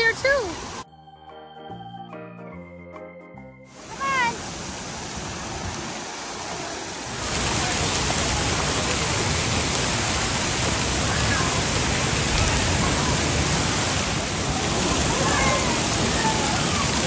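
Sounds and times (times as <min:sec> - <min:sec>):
fountain jets splashing water: 0:00.0 - 0:00.8, 0:03.7 - 0:17.0.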